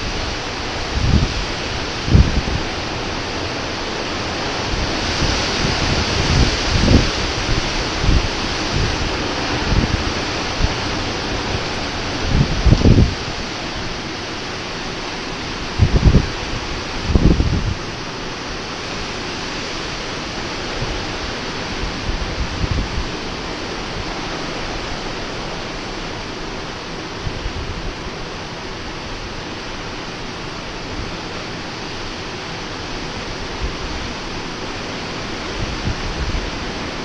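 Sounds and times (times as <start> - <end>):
strong wind rushing: 0.0 - 37.0
wind gusts buffeting microphone: 0.0 - 37.0.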